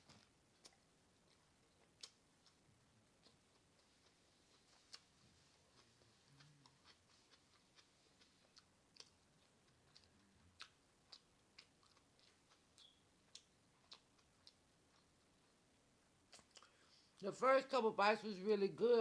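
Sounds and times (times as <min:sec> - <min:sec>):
person chewing with mouth clicks: 0:00.0 - 0:15.6, 0:16.3 - 0:16.8.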